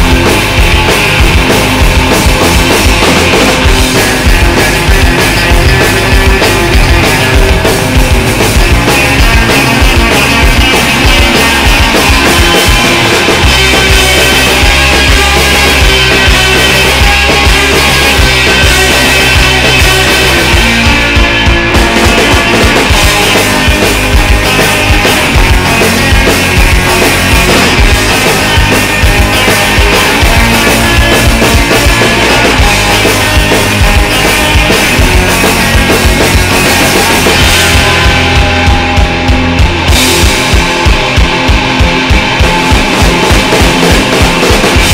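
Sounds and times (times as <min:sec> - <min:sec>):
punk rock band playing: 0:00.0 - 0:44.9.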